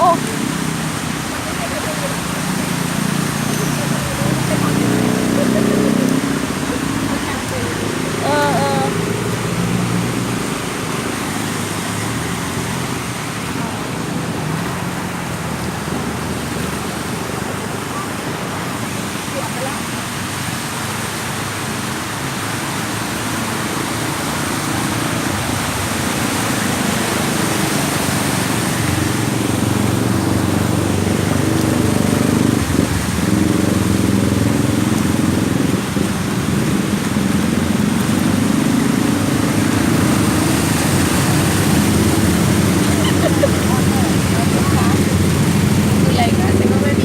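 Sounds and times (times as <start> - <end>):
road noise: 0.0 - 47.0
vehicle engines running: 0.0 - 47.0.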